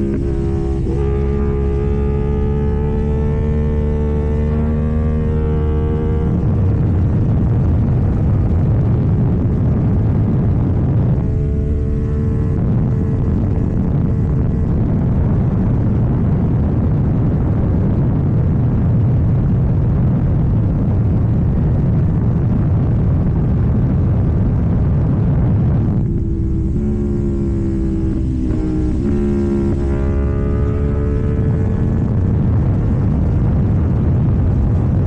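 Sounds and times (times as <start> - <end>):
motorcycle engine: 0.0 - 18.5, 22.0 - 35.0
wind buffeting microphone: 0.0 - 35.0.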